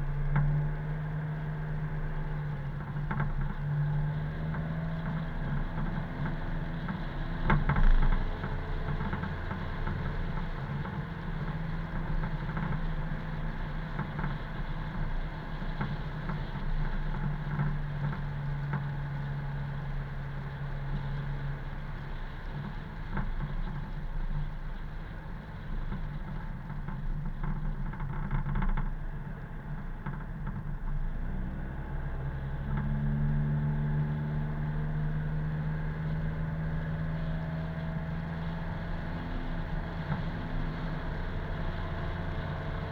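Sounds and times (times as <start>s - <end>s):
road noise: 0.0s - 42.9s.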